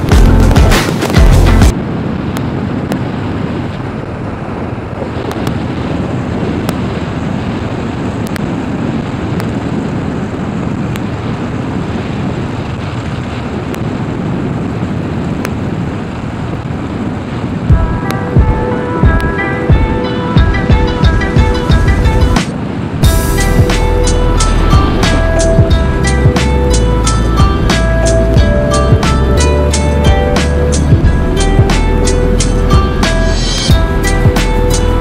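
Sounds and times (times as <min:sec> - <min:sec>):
wind rush on microphone: 0:00.0 - 0:35.0.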